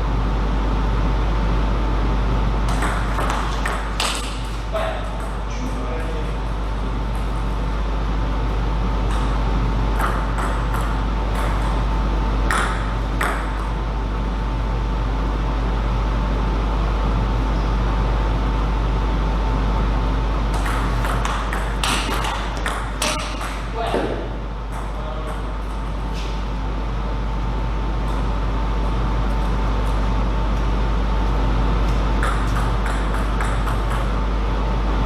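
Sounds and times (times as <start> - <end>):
hall hum: 0.0 - 35.0.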